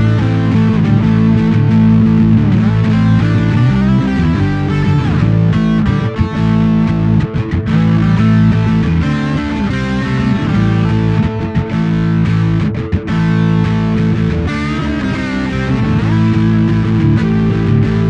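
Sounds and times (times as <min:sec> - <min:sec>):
guitar-led music: 0:00.0 - 0:18.0.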